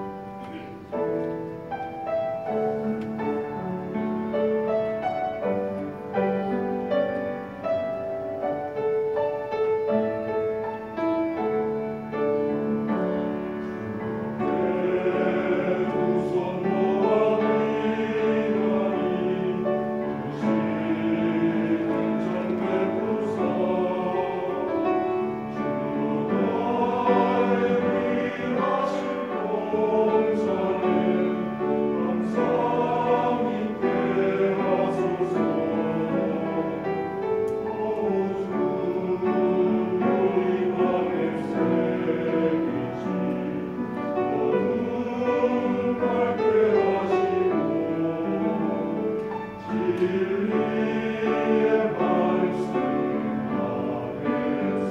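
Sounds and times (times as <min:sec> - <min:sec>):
choir singing a hymn: 0:00.0 - 0:54.9
piano accompaniment: 0:00.0 - 0:54.9.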